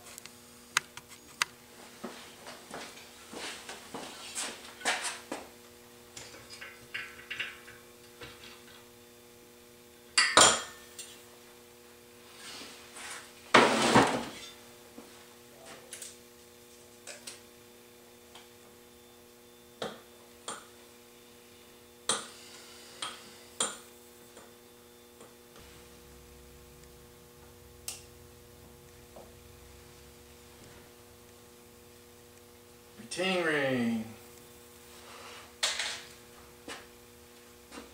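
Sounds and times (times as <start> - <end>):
faint hum: 0.0 - 37.9.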